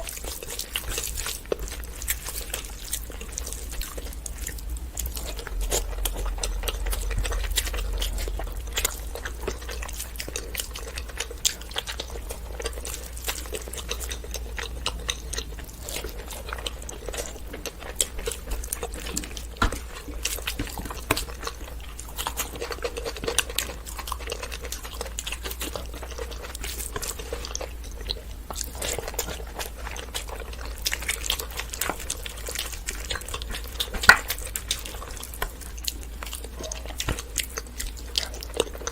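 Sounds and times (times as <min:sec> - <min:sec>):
close chewing and mouth sounds: 0:00.0 - 0:38.9
steady low hum: 0:00.0 - 0:38.9.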